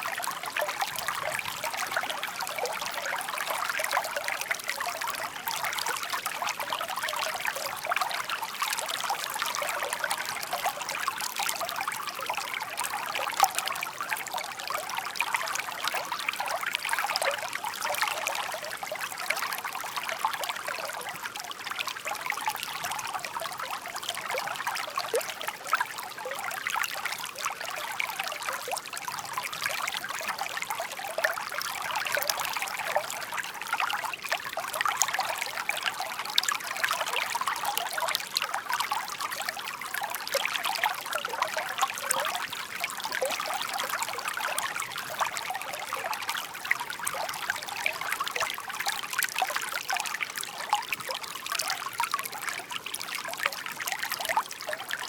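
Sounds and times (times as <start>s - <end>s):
shallow stream babbling: 0.0s - 55.0s.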